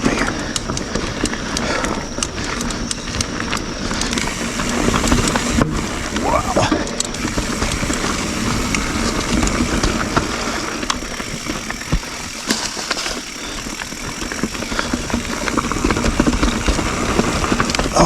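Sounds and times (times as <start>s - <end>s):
bike clicks and rattles: 0.0s - 18.0s
tyre and wind noise: 0.0s - 18.0s.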